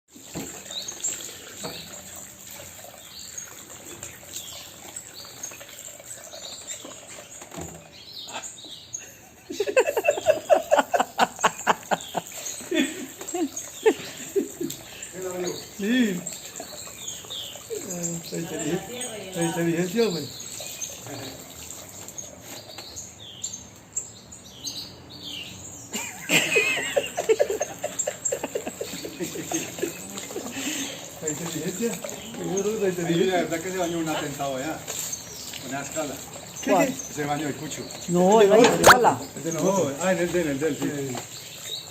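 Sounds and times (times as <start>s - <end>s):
parrot chirping and tweeting: 0.2s - 41.9s.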